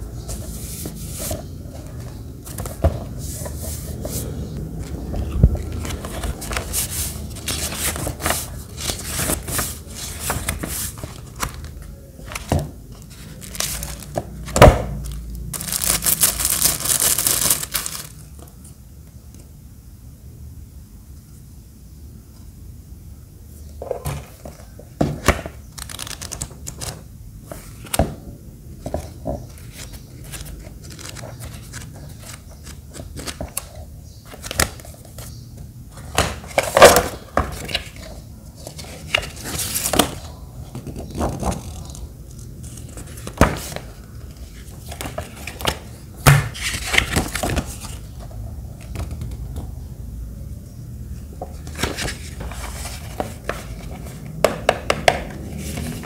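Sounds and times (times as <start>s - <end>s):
paper rustling and crinkling: 0.2s - 18.5s, 24.0s - 28.0s, 28.9s - 35.3s, 36.0s - 49.3s, 51.6s - 54.4s.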